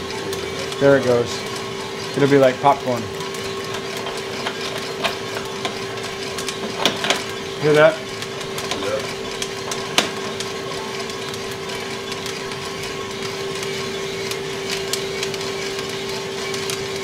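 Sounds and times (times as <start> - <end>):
coffee beans cracking: 0.0 - 17.0
roaster drum motor hum: 0.0 - 17.0.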